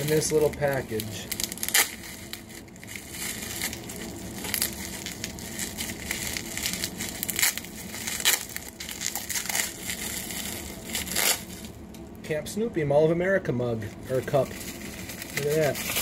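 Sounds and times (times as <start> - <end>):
packing material crinkling: 0.0 - 11.8, 13.8 - 16.0.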